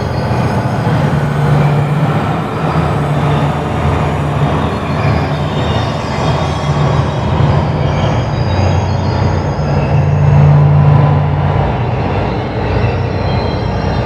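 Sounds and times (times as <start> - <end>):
rumbling electronic drone: 0.0 - 14.0.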